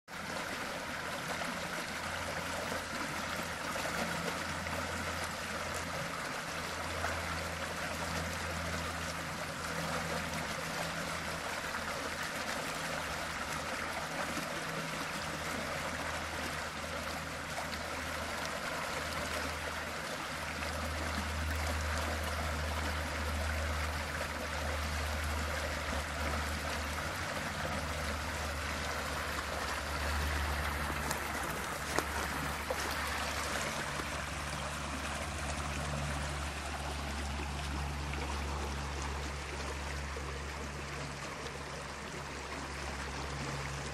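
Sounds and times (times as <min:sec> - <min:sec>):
water splashing and rushing: 0:00.1 - 0:43.9.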